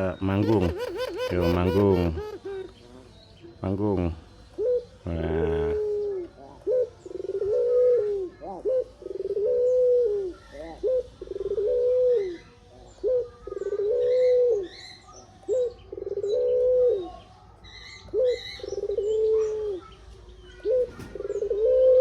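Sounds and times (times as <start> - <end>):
dove cooing: 0.0 - 3.1, 4.5 - 12.4, 13.0 - 14.8, 15.5 - 17.2, 18.1 - 19.9, 20.5 - 22.0.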